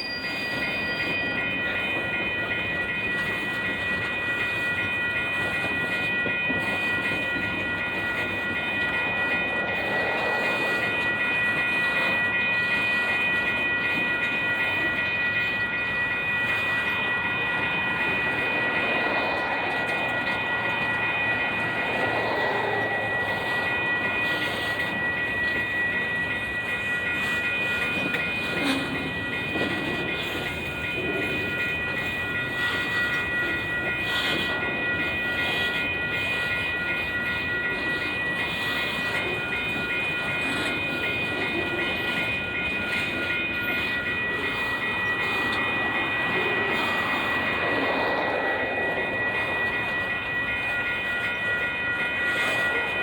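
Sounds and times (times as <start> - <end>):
train wheels rumbling on rail: 0.0 - 53.0
high-pitched tones: 3.2 - 53.0.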